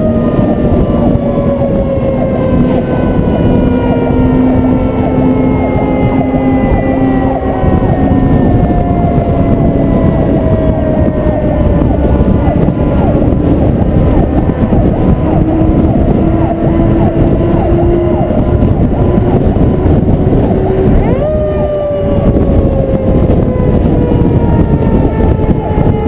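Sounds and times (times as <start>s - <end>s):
siren wailing faintly: 0.0s - 26.0s
truck engine and road noise: 0.0s - 26.0s
wind rushing over camera: 0.0s - 26.0s.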